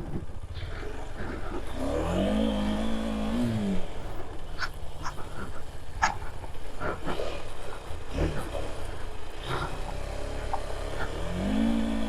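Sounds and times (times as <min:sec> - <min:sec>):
motorcycle engine revving: 0:00.0 - 0:12.0
steady low rumble: 0:00.0 - 0:12.0.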